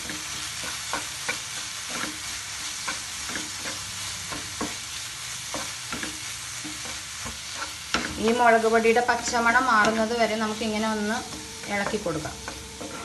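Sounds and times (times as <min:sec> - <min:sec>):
food sizzling in a pan: 0:00.0 - 0:13.0
spatula scraping a pan: 0:00.0 - 0:13.0.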